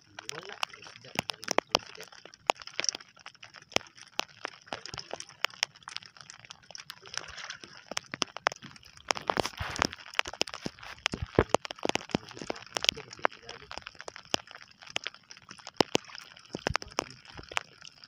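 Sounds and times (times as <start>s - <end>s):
sharp ticks and taps: 0.2s - 18.0s.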